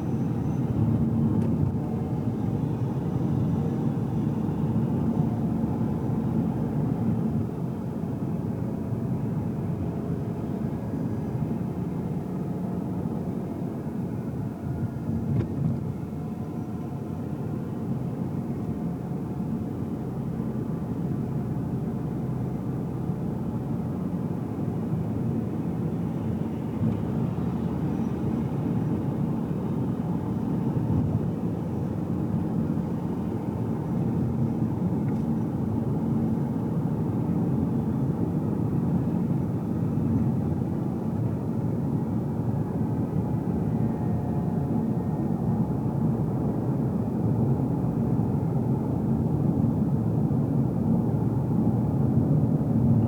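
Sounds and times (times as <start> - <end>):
car cabin road and engine rumble: 0.0 - 53.0.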